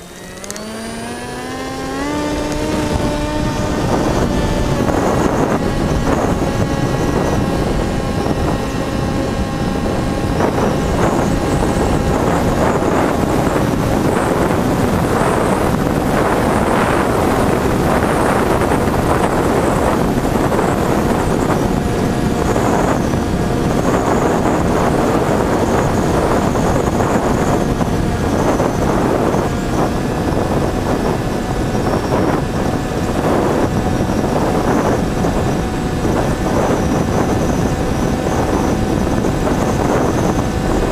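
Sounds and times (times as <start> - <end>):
electric motor whine: 0.0 - 40.9
wind and airflow rush: 0.0 - 40.9.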